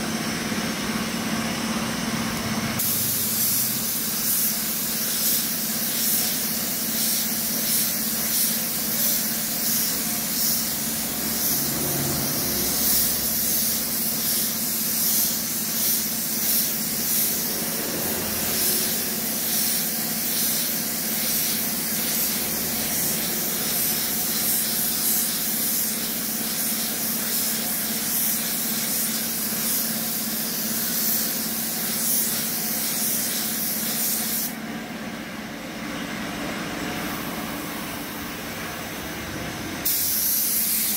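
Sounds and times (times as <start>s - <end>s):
paint spray gun hissing: 2.7s - 34.6s, 39.8s - 40.9s.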